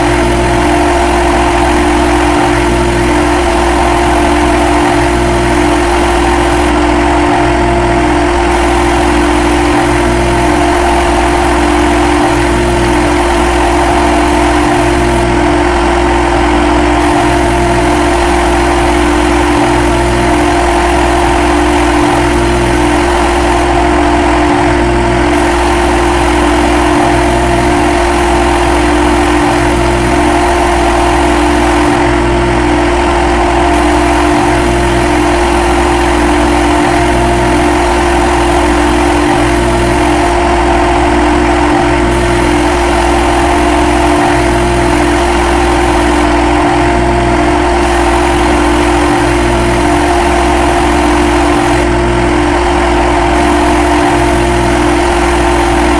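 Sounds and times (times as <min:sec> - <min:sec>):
lathe machine hum: 0:00.0 - 0:55.9.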